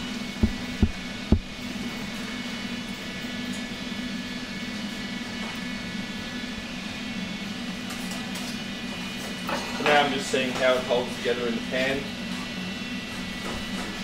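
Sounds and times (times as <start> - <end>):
ventilation drone: 0.0 - 14.0.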